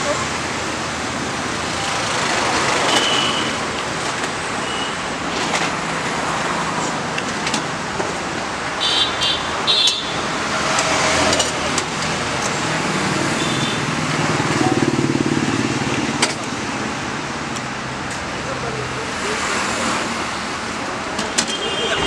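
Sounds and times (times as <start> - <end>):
roadside traffic noise: 0.0 - 22.0.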